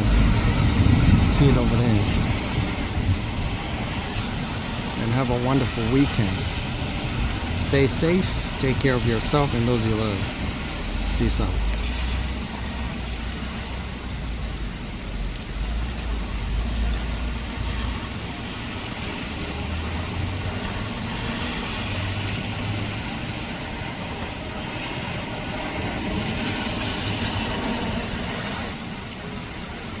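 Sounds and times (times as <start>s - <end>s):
heavy rain: 0.0s - 30.0s
traffic rumble: 0.0s - 30.0s
tyres hissing on wet street: 0.0s - 30.0s.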